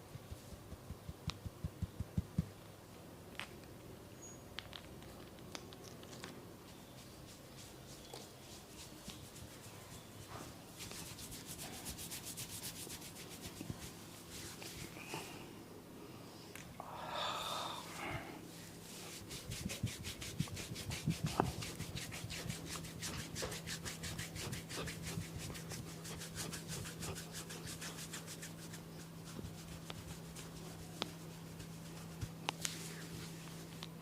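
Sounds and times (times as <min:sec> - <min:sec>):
hands rubbing skin and hair: 0:00.0 - 0:02.6, 0:06.0 - 0:15.2, 0:18.5 - 0:34.0.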